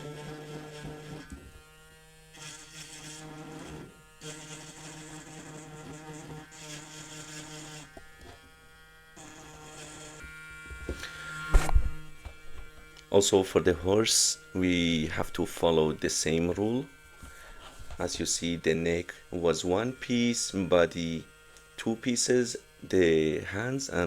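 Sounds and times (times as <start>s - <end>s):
electric tool motor buzzing: 0.0s - 24.0s.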